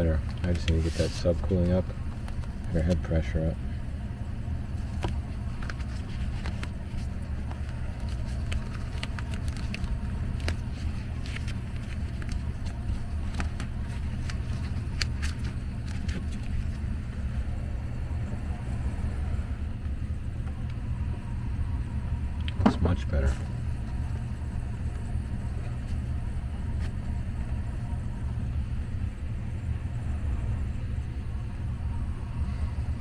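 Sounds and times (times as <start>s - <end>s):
air handler humming: 0.0s - 33.0s.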